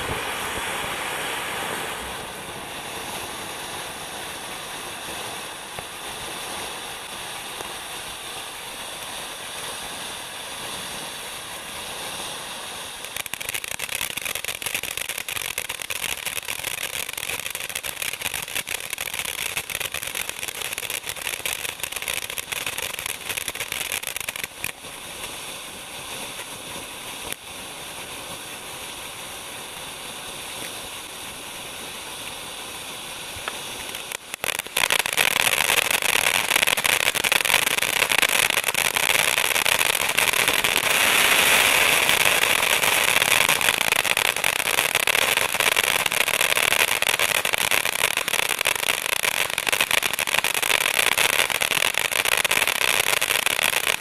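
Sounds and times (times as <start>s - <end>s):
firework crackling: 0.0s - 54.0s
firework fountain hissing: 0.0s - 54.0s.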